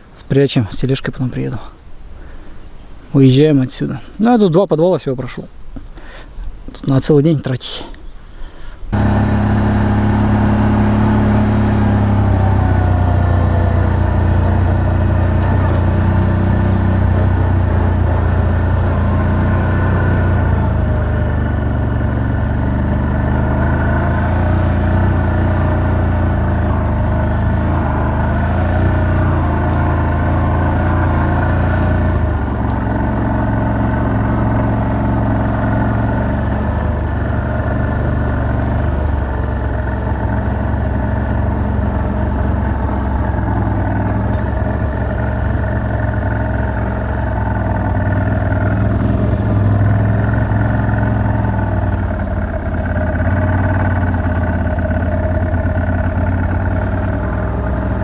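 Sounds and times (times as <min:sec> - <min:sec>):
vehicle engine running: 0:08.9 - 0:58.0.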